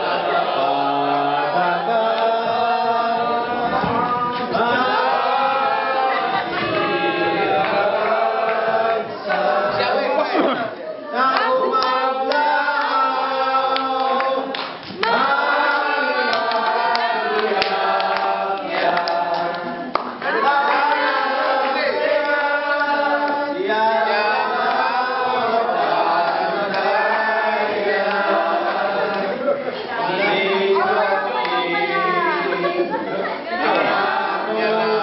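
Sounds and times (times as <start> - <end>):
group singing unaccompanied: 0.0 - 35.0.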